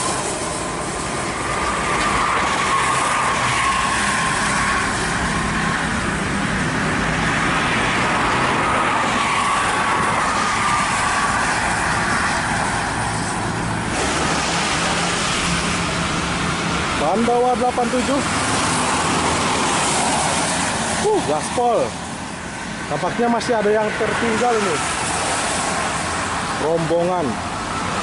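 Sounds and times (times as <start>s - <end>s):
bus and truck engines: 0.0s - 28.0s
tyres hissing through water: 0.0s - 28.0s.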